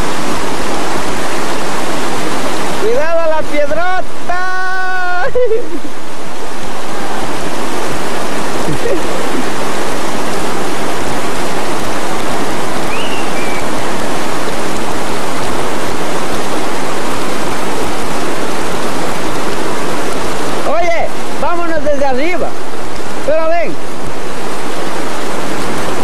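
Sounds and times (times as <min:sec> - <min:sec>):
fast-flowing river water: 0:00.0 - 0:26.0.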